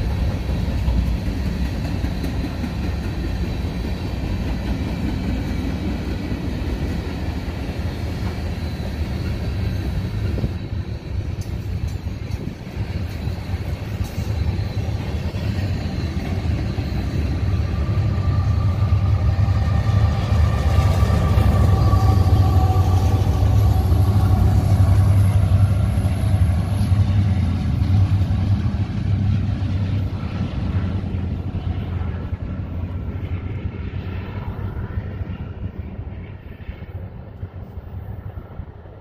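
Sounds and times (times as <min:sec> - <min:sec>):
train wheels clattering on rails: 0:00.0 - 0:36.9
locomotive engine drone: 0:00.0 - 0:39.0.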